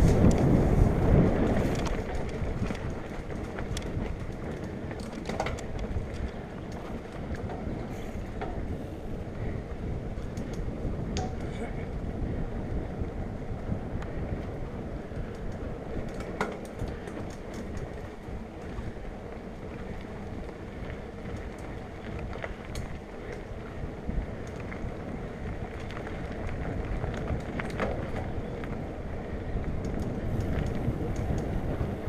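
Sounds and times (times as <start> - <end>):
bike tyre rumble: 0.0 - 32.0
wind noise on microphone: 0.0 - 32.0.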